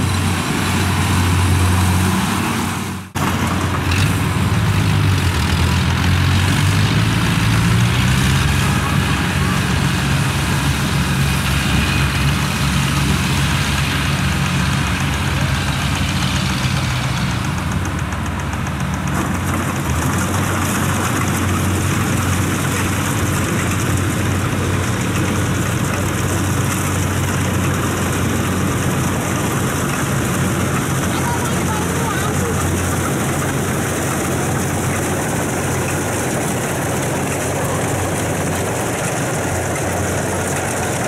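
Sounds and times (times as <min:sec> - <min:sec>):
tracked vehicle engine running: 0:00.0 - 0:41.0.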